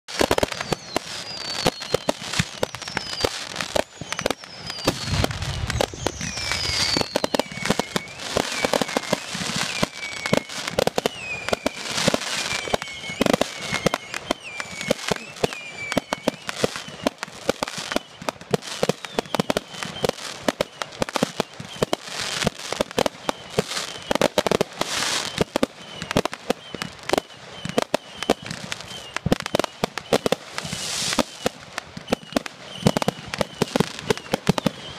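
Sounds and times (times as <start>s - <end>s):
firework whistles: 0.1s - 34.9s
fireworks bangs and crackling: 0.1s - 34.9s.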